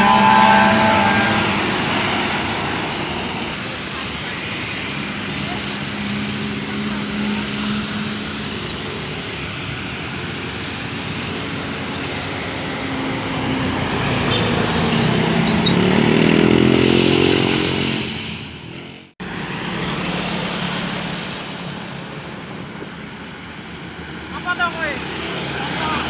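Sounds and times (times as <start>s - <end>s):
bus engine pulling away: 0.0s - 26.0s.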